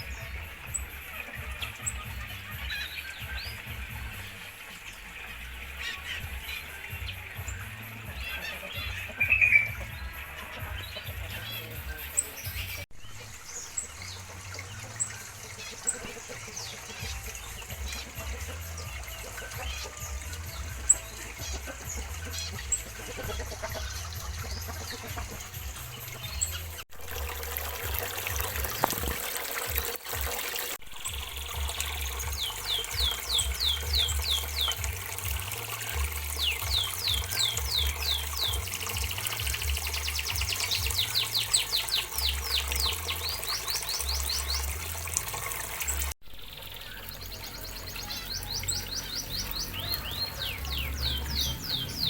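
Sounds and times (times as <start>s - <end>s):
small birds chirping: 0.0s - 26.9s, 31.0s - 52.0s.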